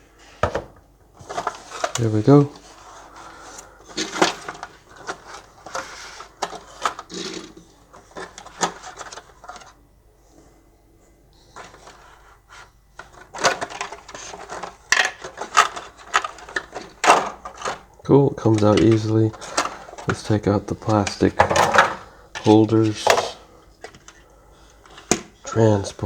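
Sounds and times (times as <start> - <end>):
cardboard and plastic rustling: 0.5 - 9.8, 11.5 - 26.0.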